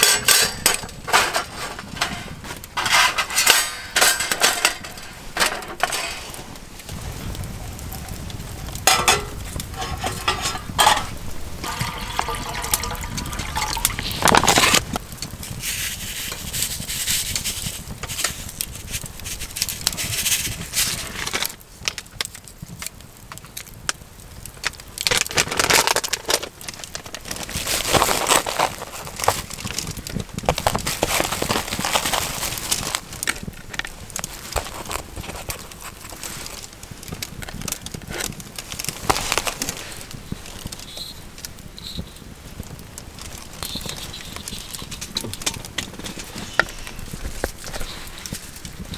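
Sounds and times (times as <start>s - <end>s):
fire crackling: 0.0s - 48.9s.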